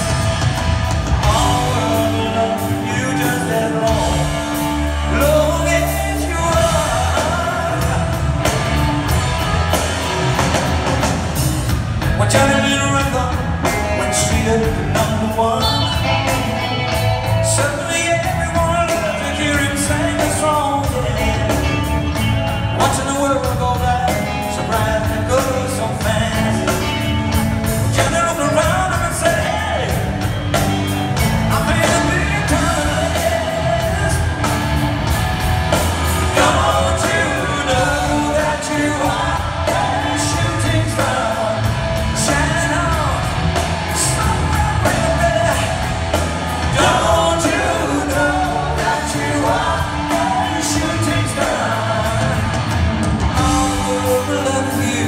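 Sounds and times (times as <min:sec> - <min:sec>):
lead vocal singing: 0:00.0 - 0:55.0
rock band playing: 0:00.0 - 0:55.0.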